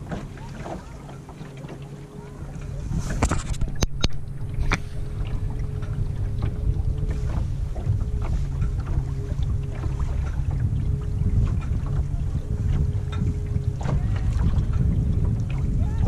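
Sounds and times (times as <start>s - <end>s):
electric outboard motor humming: 0.0s - 16.0s
water splashing against hull: 0.0s - 16.0s
wind rumble on microphone: 0.0s - 16.0s.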